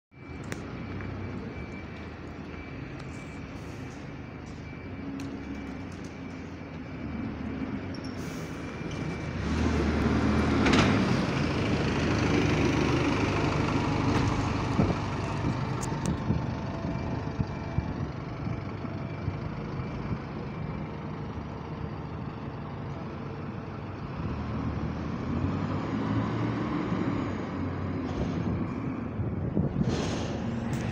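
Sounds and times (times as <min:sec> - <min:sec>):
bus diesel engine running: 0:00.2 - 0:30.9.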